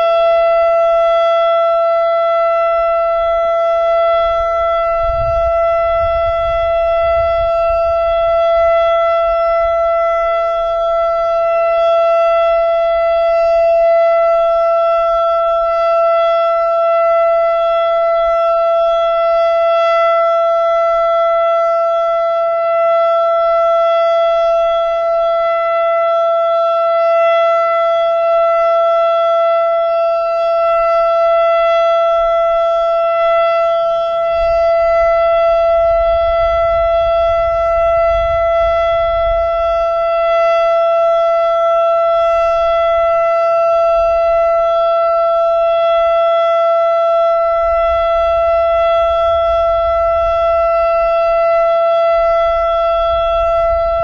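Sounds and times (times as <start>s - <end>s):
warning siren held pitch: 0.0s - 54.0s.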